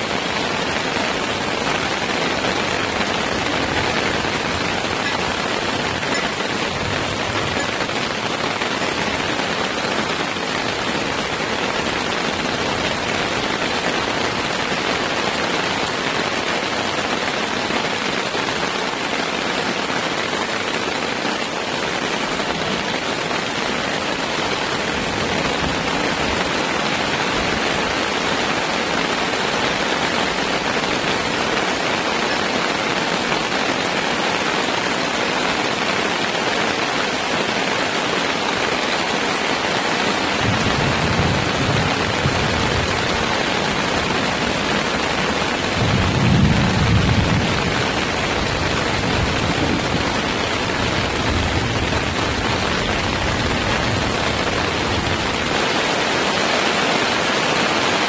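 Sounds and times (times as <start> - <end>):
heavy rain on a tarp: 0.0 - 58.0.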